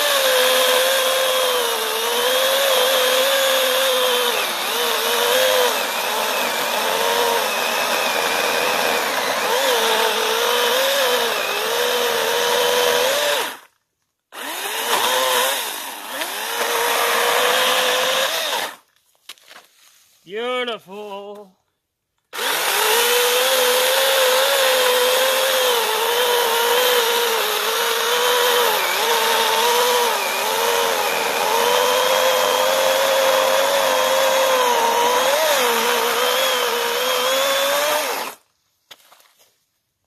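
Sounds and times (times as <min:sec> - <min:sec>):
electric chainsaw cutting log: 0:00.0 - 0:18.9, 0:22.3 - 0:38.5.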